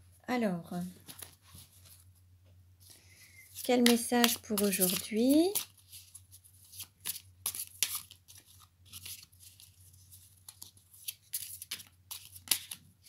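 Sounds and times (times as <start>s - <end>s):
cards being shuffled by hand: 1.0s - 2.0s, 2.8s - 13.0s.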